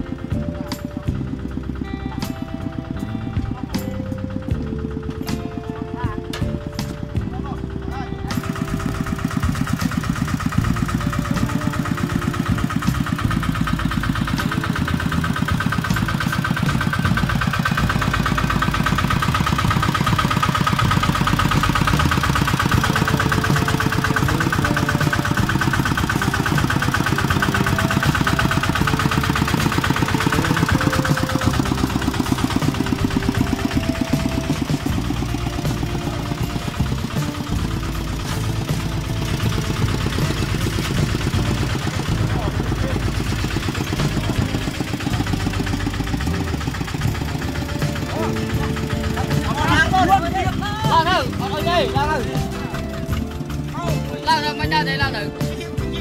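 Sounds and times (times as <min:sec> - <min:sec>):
walking tractor diesel engine running: 0:00.0 - 0:56.0.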